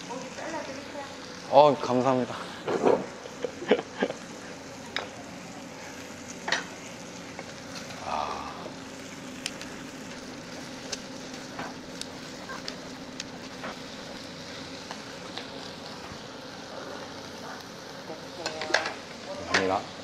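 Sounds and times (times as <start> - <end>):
fat crackling and popping: 0.0 - 20.0
meat sizzling on a grill: 0.0 - 20.0.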